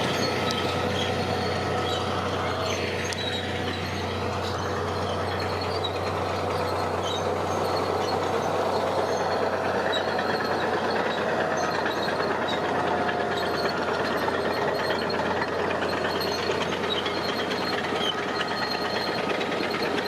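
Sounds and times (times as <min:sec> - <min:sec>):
heavy diesel machinery engine drone: 0:00.0 - 0:20.0.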